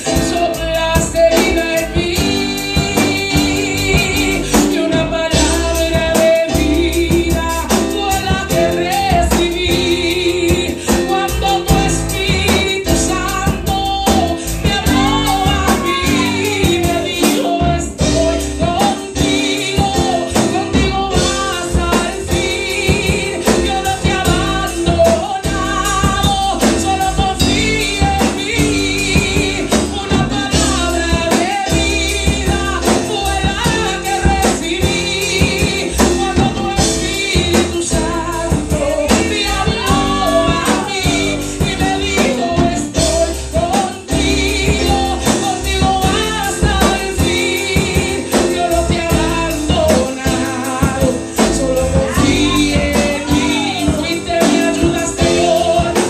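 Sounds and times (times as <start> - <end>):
keyboard and drum accompaniment: 0.0 - 56.0
woman singing gospel: 0.0 - 56.0.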